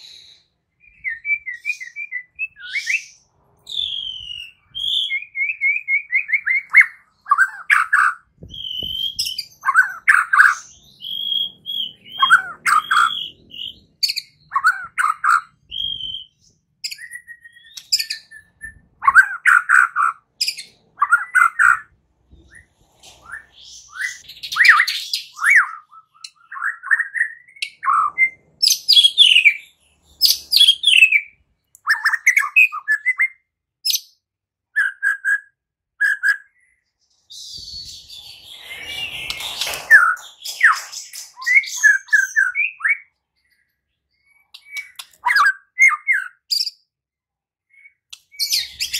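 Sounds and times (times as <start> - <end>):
bird singing whistles and warbles: 0.0 - 46.9, 47.6 - 48.9.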